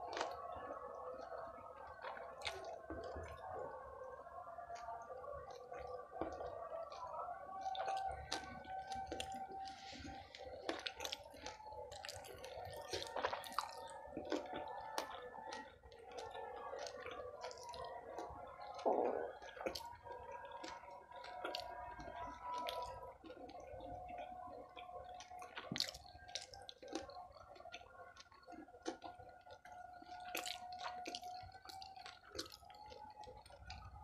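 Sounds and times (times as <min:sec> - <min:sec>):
wet chewing with mouth clicks: 0:00.0 - 0:34.0.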